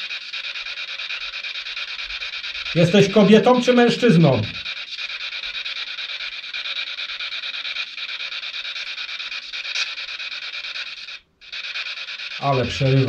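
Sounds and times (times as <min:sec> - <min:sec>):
stuttering radio static: 0:00.0 - 0:13.0.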